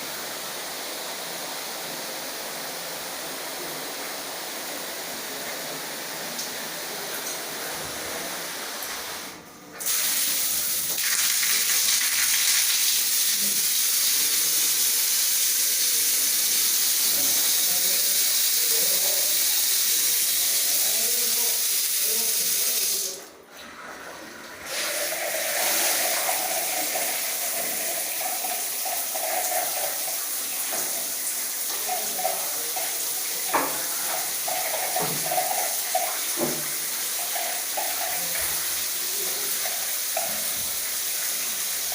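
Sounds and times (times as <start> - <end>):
water spraying from shower: 0.0 - 23.2, 24.6 - 41.9.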